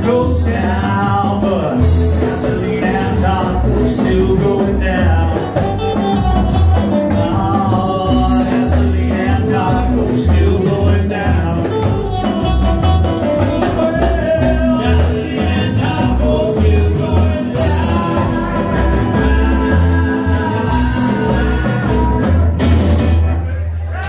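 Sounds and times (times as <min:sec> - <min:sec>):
person singing: 0:00.0 - 0:12.4, 0:13.3 - 0:22.8
electric guitar: 0:00.0 - 0:23.4
drums: 0:00.0 - 0:24.0
upright bass: 0:00.0 - 0:24.0.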